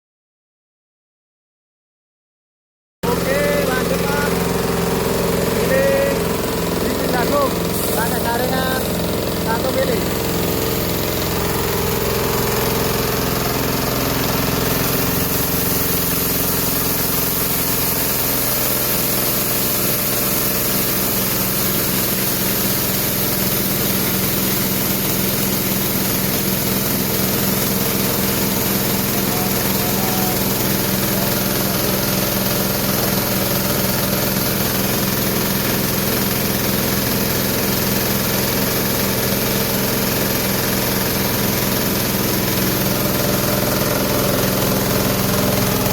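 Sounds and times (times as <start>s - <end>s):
grinding mill running: 3.0s - 45.9s.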